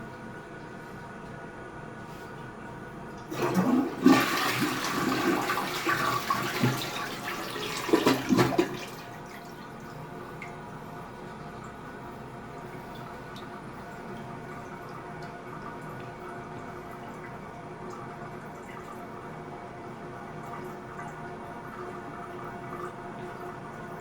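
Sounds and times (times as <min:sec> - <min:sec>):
toilet flushing: 0:03.1 - 0:24.0
toilet bowl gurgle: 0:03.2 - 0:24.0.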